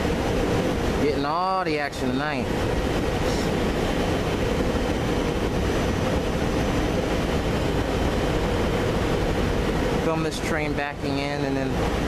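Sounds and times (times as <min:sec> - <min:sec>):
train droning and humming: 0:00.0 - 0:12.0
wind rumble on microphone: 0:00.0 - 0:12.0.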